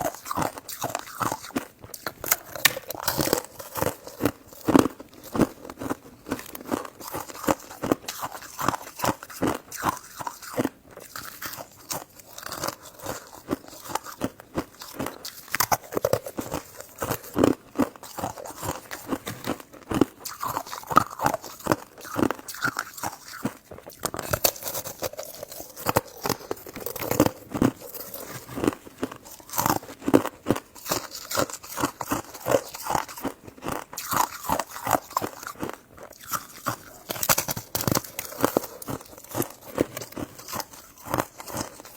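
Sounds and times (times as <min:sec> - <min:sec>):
wet sticky chewing: 0:00.0 - 0:41.9.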